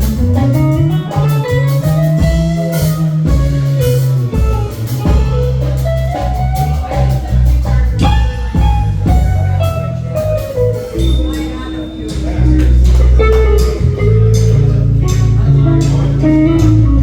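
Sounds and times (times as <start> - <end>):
bass guitar line: 0.0 - 17.0
drum kit: 0.0 - 17.0
guitar: 0.0 - 17.0.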